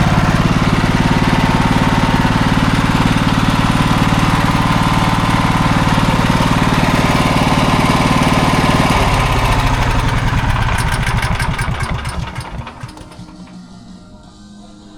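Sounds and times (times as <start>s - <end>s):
generator engine running and shutting off: 0.0s - 14.4s.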